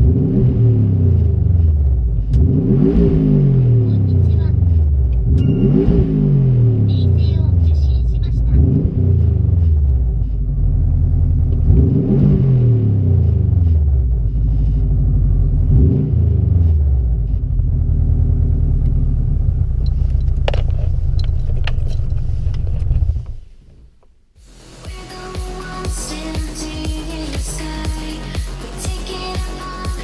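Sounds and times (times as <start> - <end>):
car engine idling: 0.0 - 30.0
car engine revving: 0.0 - 30.0.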